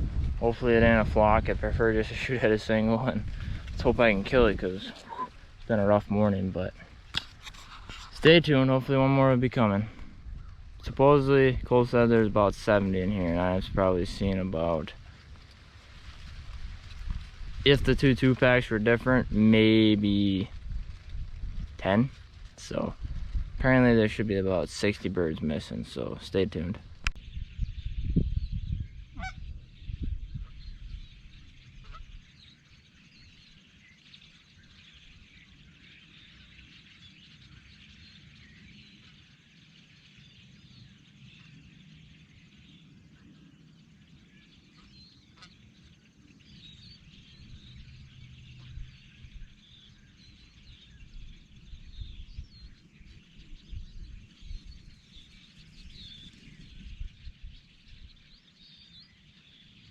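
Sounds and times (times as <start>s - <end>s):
distant birds chirping: 0.0s - 15.8s, 21.8s - 59.9s
wind rumble on microphone: 0.0s - 59.9s.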